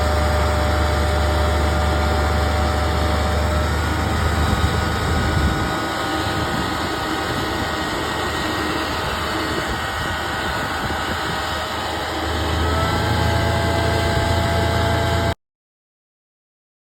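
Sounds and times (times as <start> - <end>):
truck engine running: 0.0 - 15.4.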